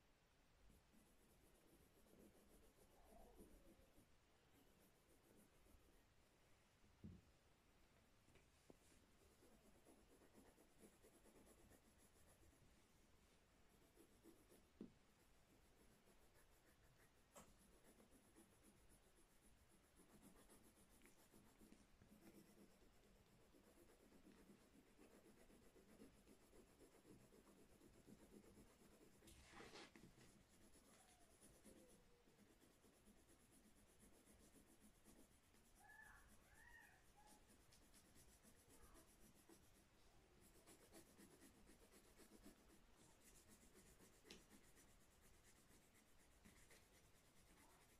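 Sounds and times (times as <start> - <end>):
pencil scratching on paper: 0.8 - 6.0, 9.1 - 12.6, 13.7 - 39.8, 40.4 - 47.9.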